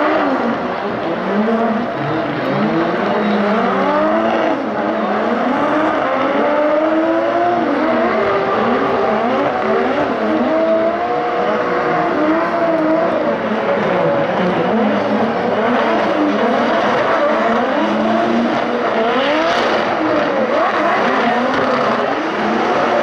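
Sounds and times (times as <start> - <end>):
car engines revving hard: 0.0 - 23.0.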